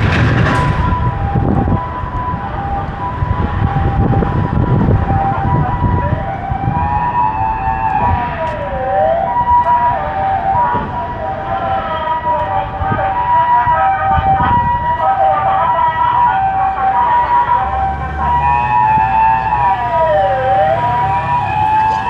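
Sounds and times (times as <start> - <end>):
street traffic rumbling: 0.0 - 22.0
two-tone siren: 0.0 - 22.0
wailing siren: 0.0 - 22.0.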